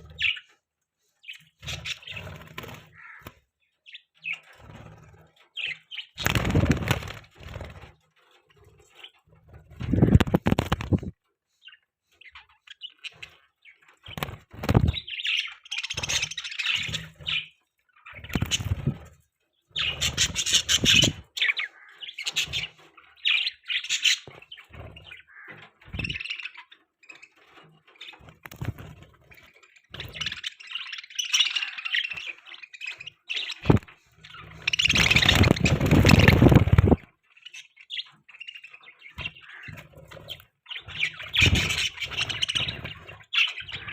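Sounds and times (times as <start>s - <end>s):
budgerigars chirping: 0.0s - 0.5s, 1.2s - 4.5s, 5.5s - 7.6s, 9.8s - 19.0s, 19.7s - 27.4s, 29.7s - 43.9s.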